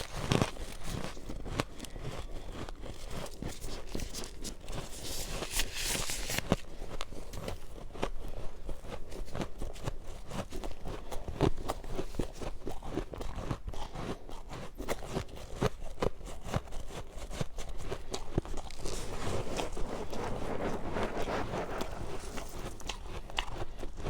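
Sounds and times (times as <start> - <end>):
chewing crunchy frost ice: 0.0 - 24.0.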